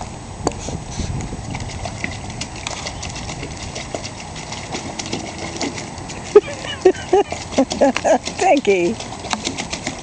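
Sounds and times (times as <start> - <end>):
dog splashing in water: 1.4 - 10.0.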